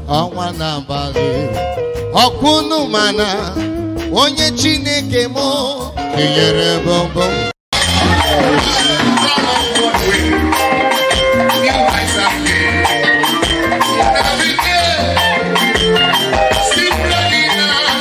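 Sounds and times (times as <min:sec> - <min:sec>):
gospel band playing: 0:00.0 - 0:18.0.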